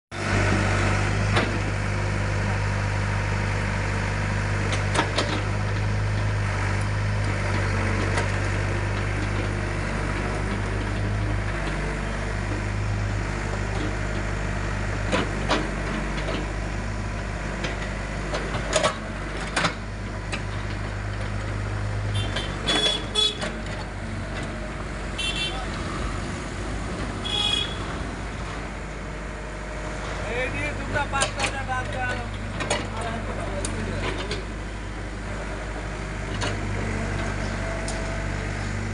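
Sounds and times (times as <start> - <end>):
excavator diesel engine humming: 0.1 - 38.9.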